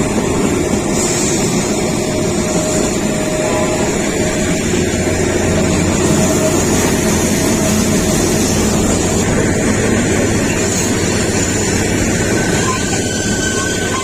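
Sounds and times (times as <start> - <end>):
train rumbling and rattling: 0.0 - 14.0.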